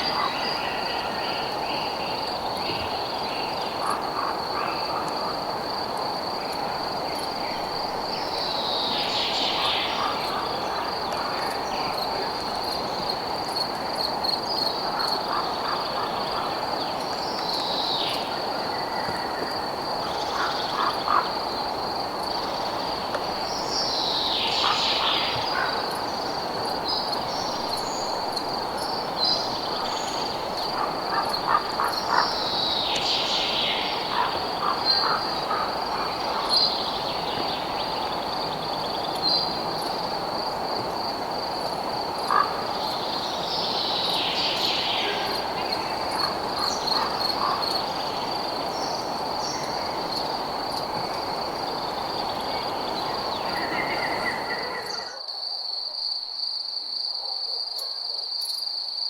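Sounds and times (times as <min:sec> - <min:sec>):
chorus of night creatures: 0:00.0 - 0:59.0.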